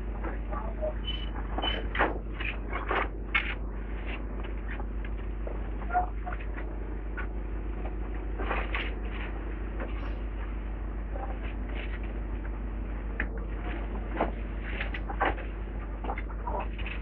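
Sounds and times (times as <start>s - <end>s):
machine engine running: 0.0s - 17.0s.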